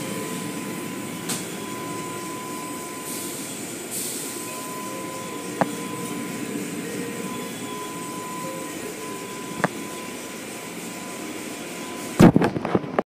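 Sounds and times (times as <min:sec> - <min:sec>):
car wash brushes and spray roaring: 0:00.0 - 0:12.3
faint steady whine: 0:00.0 - 0:13.0.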